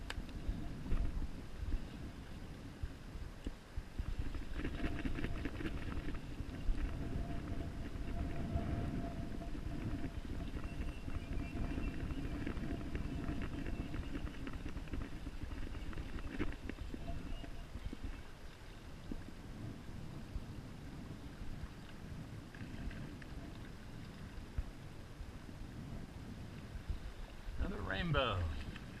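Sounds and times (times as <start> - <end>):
river current rumble: 0.0 - 29.0
wind on microphone: 0.0 - 29.0.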